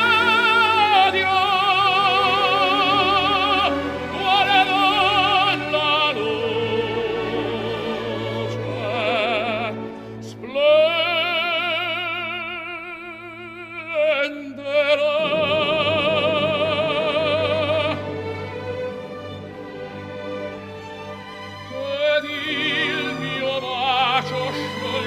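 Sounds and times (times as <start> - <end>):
operatic solo voice singing: 0.0 - 18.2, 21.7 - 25.0
orchestral accompaniment: 0.0 - 25.0.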